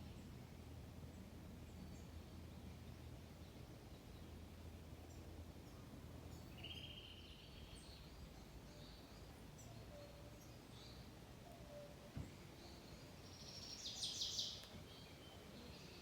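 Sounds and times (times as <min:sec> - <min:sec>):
low rumble of breeze: 0:00.0 - 0:16.0.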